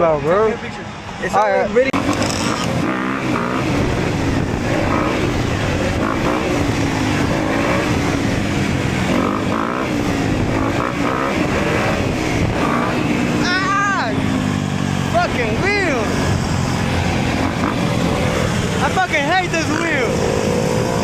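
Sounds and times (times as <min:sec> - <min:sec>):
dirt bike engine: 0:00.0 - 0:21.0.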